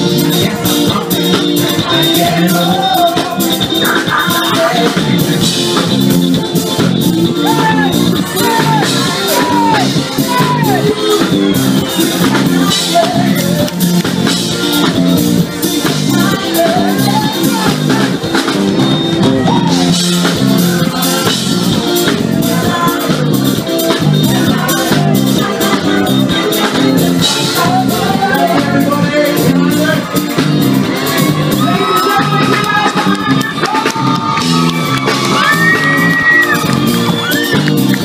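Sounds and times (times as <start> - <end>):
drum kit: 0.0 - 38.0
electric bass: 0.0 - 38.0
electric guitar: 0.0 - 38.0
keyboard: 0.0 - 38.0.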